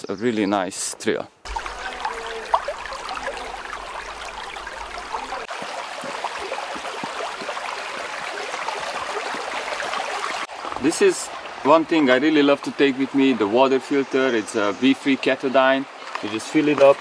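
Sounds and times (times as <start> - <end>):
creek trickling over pebbles: 1.5 - 17.0.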